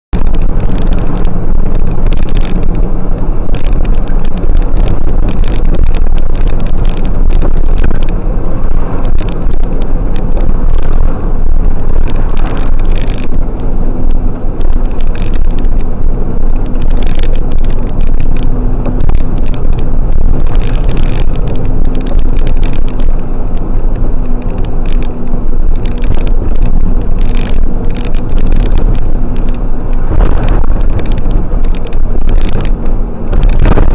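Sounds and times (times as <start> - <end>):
car engine and road noise: 0.0 - 33.9
steady hum: 0.1 - 33.9
knocks and rattles: 0.2 - 33.9.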